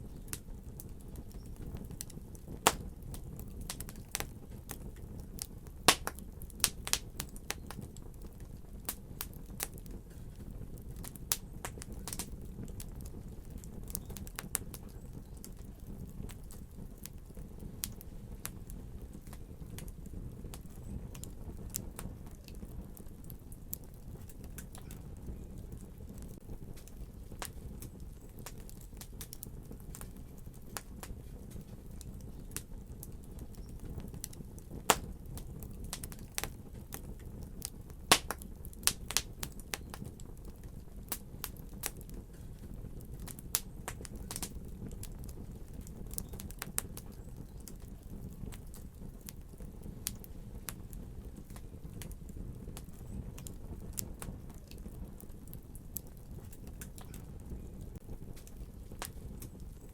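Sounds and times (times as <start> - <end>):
fire crackling and popping: 0.0 - 59.9
flames rumbling: 0.0 - 59.9.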